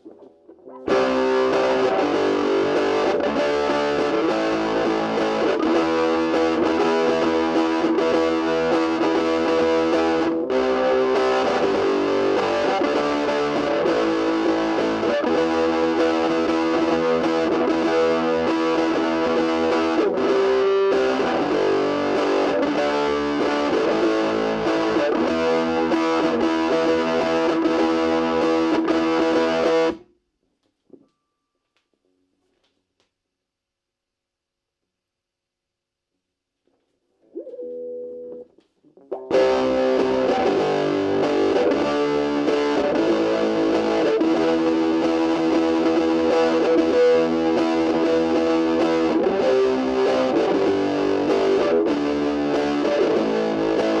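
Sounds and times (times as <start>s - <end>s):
distorted electric guitar: 0.0s - 30.1s, 37.2s - 54.0s.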